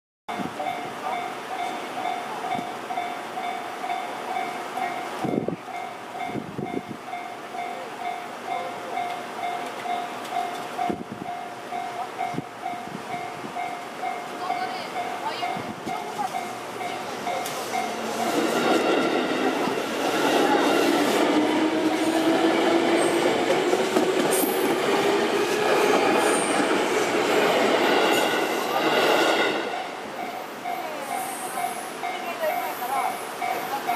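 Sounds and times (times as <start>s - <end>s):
level-crossing warning bell: 0.3s - 23.6s, 24.3s - 33.9s
electric train running past: 0.3s - 33.9s.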